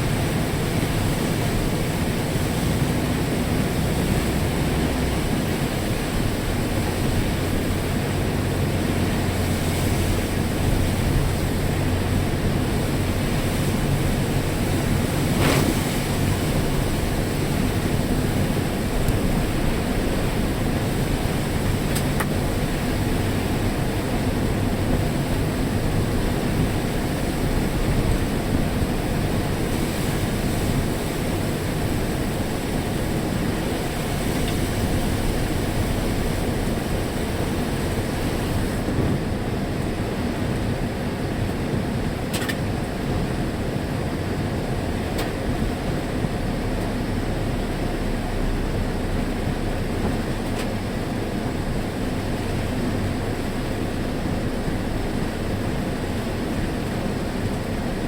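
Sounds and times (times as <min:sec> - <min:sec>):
heavy rain pouring: 0:00.0 - 0:42.1, 0:42.8 - 0:58.0.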